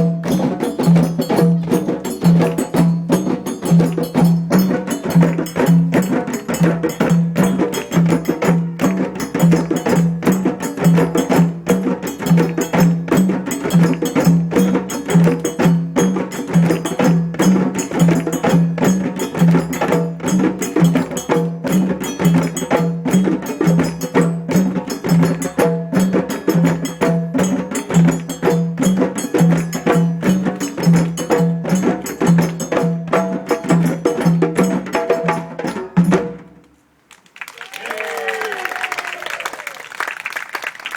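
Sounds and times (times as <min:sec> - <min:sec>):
djembe drumming: 0:00.0 - 0:36.6.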